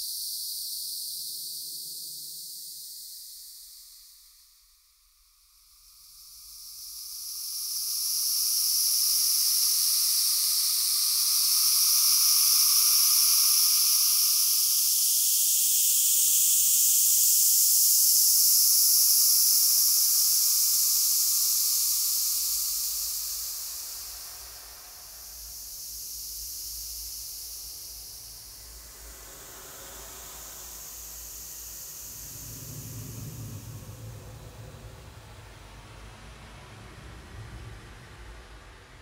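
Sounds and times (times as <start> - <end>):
steady high-pitched hiss: 0.0 - 39.0.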